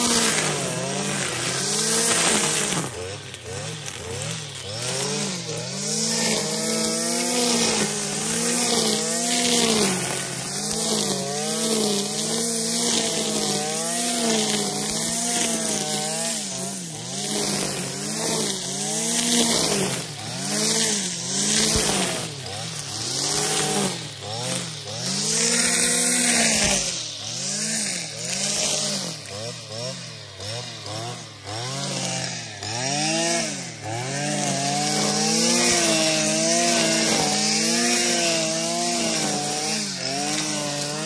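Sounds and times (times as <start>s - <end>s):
brushcutter engine at high revs: 0.0s - 41.0s
trimmer line cutting grass: 0.0s - 41.0s.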